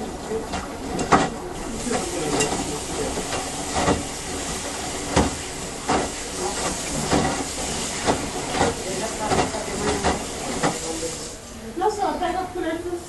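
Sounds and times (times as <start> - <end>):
water sloshing: 0.0 - 11.3
washing machine churning water: 0.0 - 13.0.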